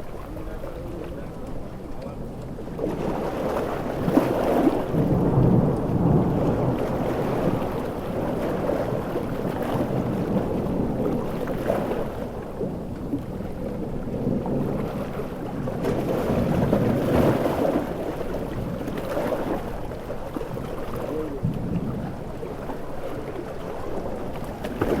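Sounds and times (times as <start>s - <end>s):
heavy rain: 0.0s - 19.0s, 19.6s - 25.0s
surf crashing: 0.0s - 25.0s
thunder rumbling: 2.8s - 25.0s.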